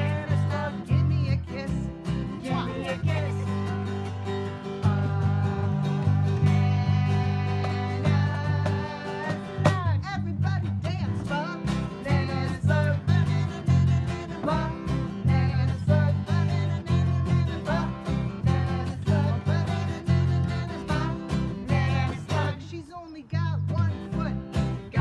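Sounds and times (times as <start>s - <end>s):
people singing: 0.0s - 10.0s, 11.0s - 22.9s, 24.1s - 25.0s
electric bass line: 0.0s - 22.6s
strummed acoustic guitar: 0.0s - 22.7s, 23.6s - 25.0s
cajon beat: 0.0s - 22.8s, 23.7s - 25.0s.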